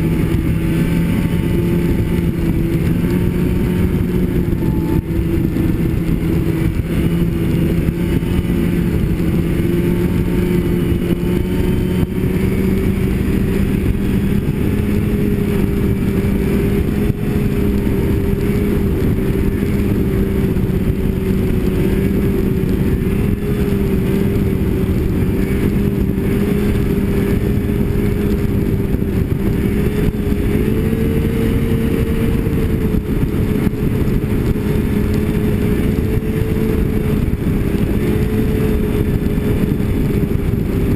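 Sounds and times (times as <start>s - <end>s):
constant rushing noise: 0.0s - 40.9s
snowmobile engine running: 0.0s - 40.9s.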